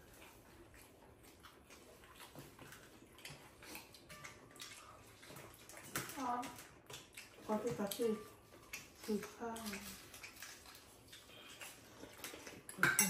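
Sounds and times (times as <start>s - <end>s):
people chewing food: 0.0s - 13.0s.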